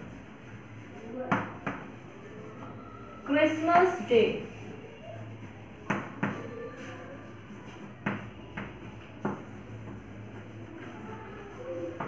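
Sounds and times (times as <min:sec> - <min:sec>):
chalk tapping and scraping: 0:00.0 - 0:02.7, 0:03.6 - 0:12.0.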